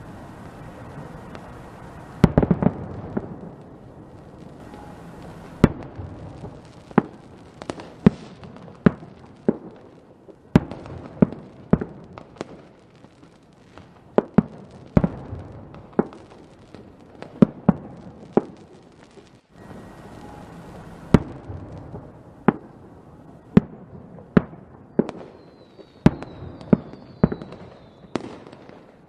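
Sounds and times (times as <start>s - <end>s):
distant fireworks rumble: 0.0s - 29.0s
fireworks bangs: 0.0s - 29.0s.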